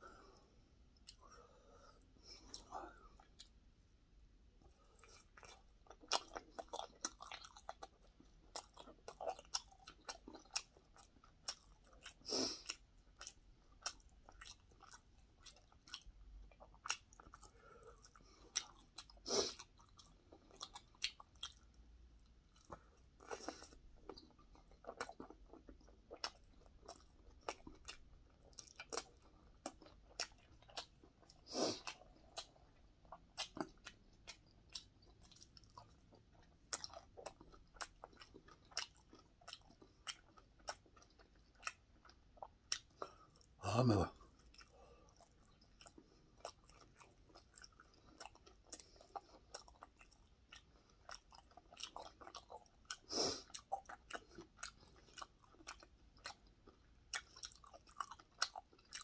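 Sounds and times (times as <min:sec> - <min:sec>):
person chewing crunchy food: 0:00.1 - 0:03.6, 0:04.6 - 0:59.0.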